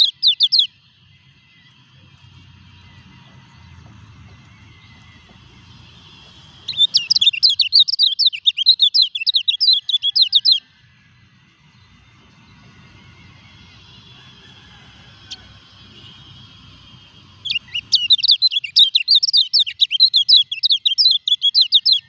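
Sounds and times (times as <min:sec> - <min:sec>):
bird singing high twittering notes: 0:00.0 - 0:10.8, 0:11.4 - 0:22.0.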